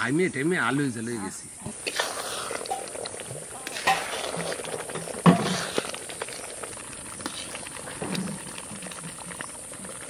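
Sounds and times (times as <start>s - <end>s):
thick stew bubbling and popping: 1.6s - 10.0s.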